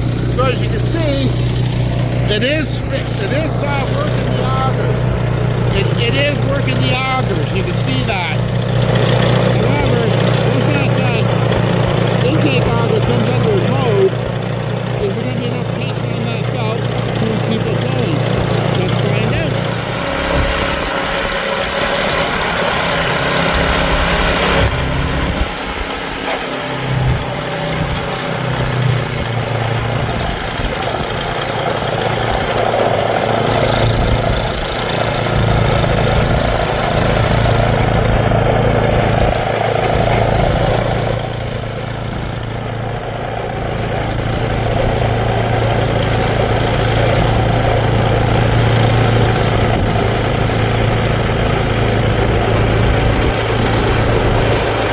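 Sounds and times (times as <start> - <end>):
auger churning through snow: 0.0 - 54.9
snowblower engine running: 0.0 - 54.9.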